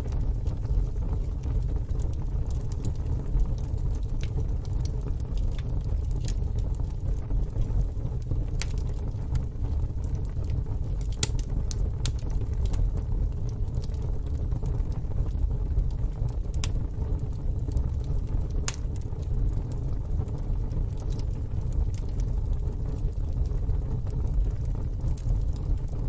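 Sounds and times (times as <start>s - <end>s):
fire crackling and popping: 0.0s - 26.0s
low fire rumble: 0.0s - 26.0s.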